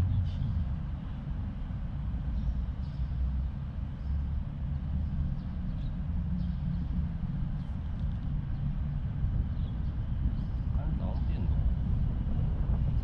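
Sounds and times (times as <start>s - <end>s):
traffic rumble on bridge: 0.0s - 13.0s.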